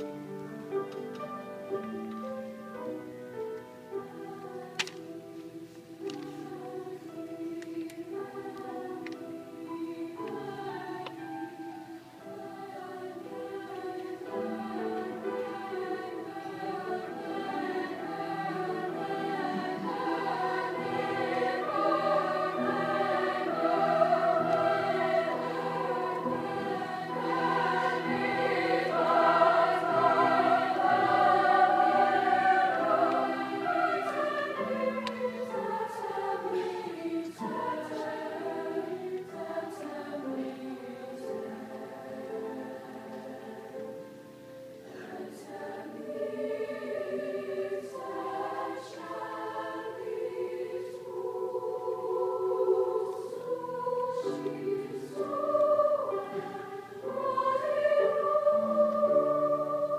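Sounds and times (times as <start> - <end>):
girls' choir singing: 0.0 - 59.9.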